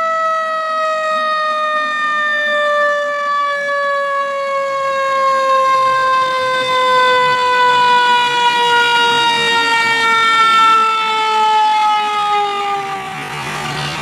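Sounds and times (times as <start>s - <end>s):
fire truck siren winding down: 0.0s - 14.0s.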